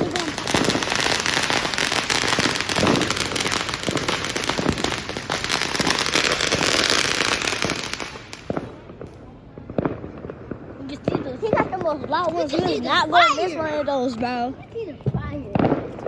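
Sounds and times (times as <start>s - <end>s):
firecrackers popping: 0.0s - 16.0s.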